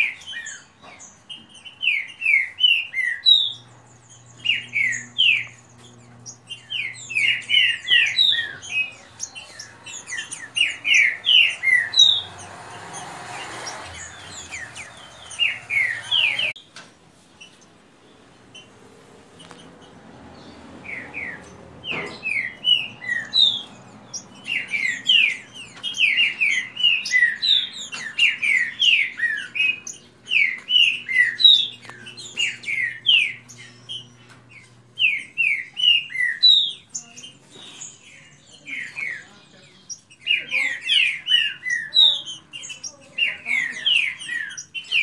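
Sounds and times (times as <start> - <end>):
birds singing whistled notes: 0.0 - 18.8, 19.4 - 45.0.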